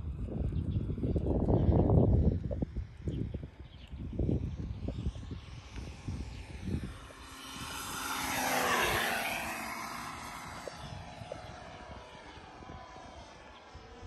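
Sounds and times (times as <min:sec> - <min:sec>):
model airplane motor and propeller: 0:00.0 - 0:14.0.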